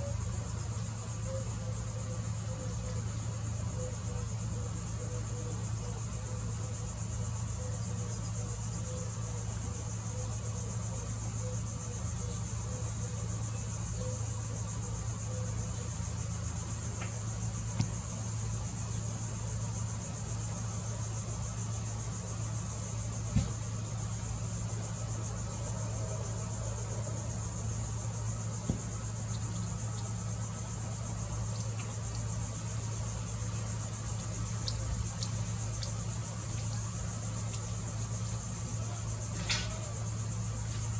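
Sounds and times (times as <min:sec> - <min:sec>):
constant low hum: 0:00.0 - 0:40.9
insects trilling: 0:00.0 - 0:40.9.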